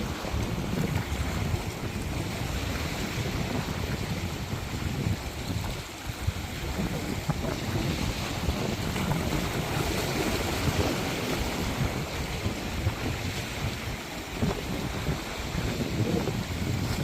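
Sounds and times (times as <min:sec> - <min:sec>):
small waves lapping on shore: 0:00.0 - 0:17.0.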